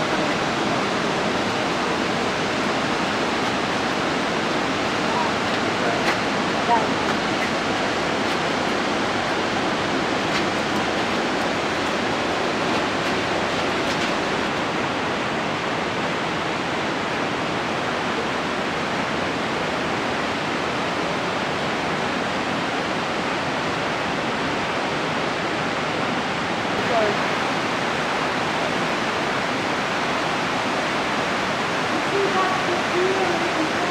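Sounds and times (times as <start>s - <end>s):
river rushing over rapids: 0.0s - 33.9s.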